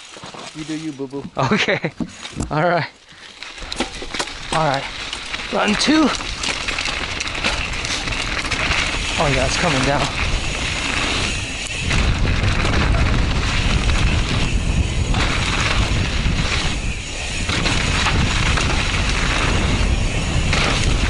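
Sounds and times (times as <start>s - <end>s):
wind buffeting microphone: 3.9s - 21.0s.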